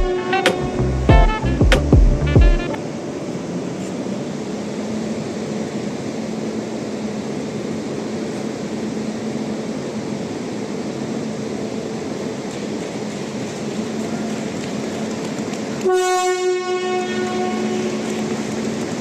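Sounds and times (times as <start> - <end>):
locomotive rushing noise: 0.0 - 19.0.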